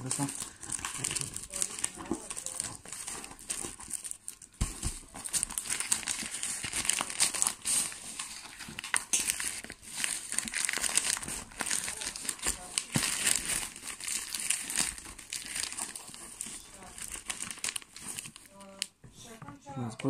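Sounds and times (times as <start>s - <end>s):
paper crumpling and rustling: 0.0s - 19.4s.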